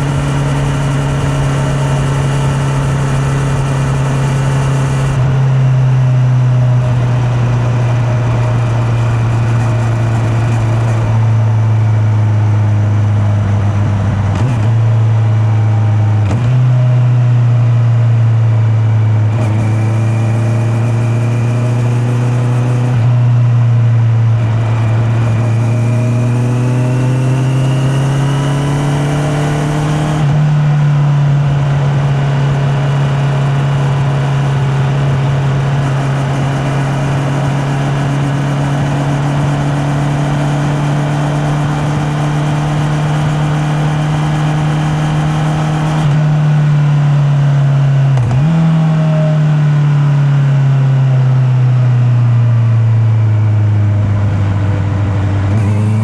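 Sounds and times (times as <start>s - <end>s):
motorcycle engine riding: 0.0s - 56.0s.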